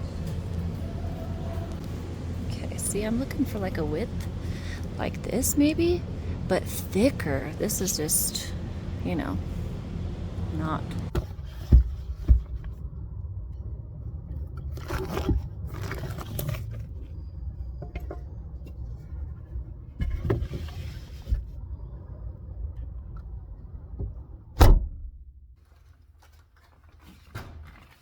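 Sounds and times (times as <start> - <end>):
low steady rumble: 0.0 - 25.6.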